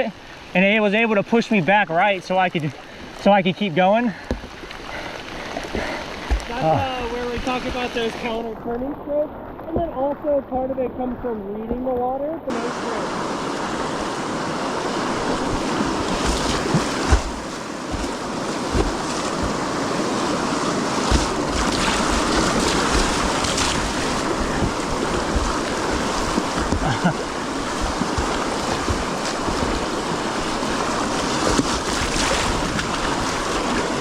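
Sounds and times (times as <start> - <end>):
kayak thumps and splashes: 4.2 - 10.6, 11.6 - 34.0
whitewater rushing: 5.0 - 11.2, 12.5 - 34.0.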